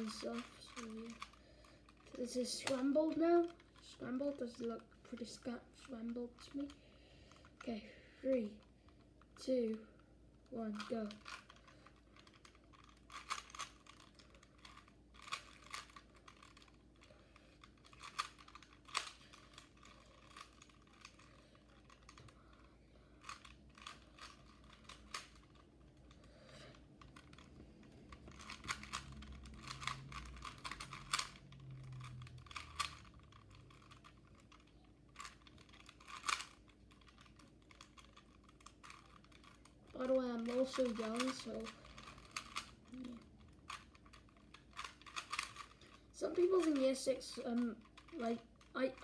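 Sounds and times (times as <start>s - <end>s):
puzzle cube plastic clicking: 0.0s - 9.5s, 10.4s - 49.0s.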